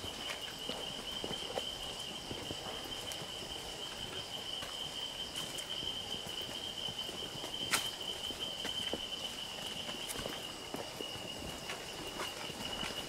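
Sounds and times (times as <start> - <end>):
footsteps on dirt trail: 0.0 - 13.0
insects trilling: 0.0 - 13.0.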